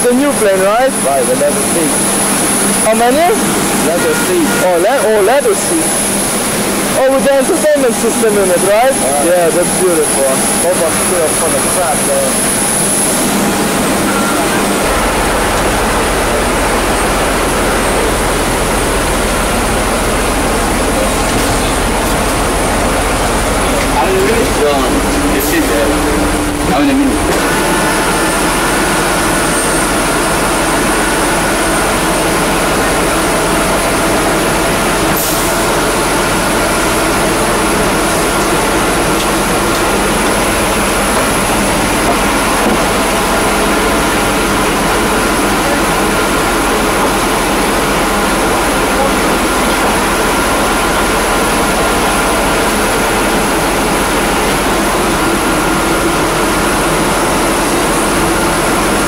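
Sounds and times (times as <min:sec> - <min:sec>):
high-pitched turbine whine: 0:00.0 - 0:59.0
jet turbine rushing: 0:00.0 - 0:59.0.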